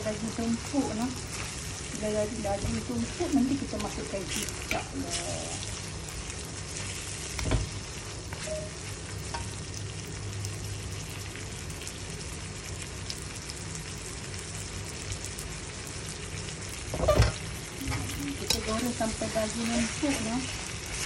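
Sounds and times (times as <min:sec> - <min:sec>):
meat sizzling in a wok: 0:00.0 - 0:21.0.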